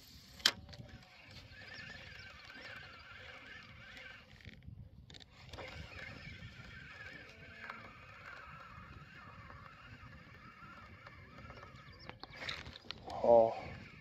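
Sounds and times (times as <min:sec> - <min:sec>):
fishing reel whirring: 0:00.0 - 0:14.0
wind on microphone: 0:00.0 - 0:14.0.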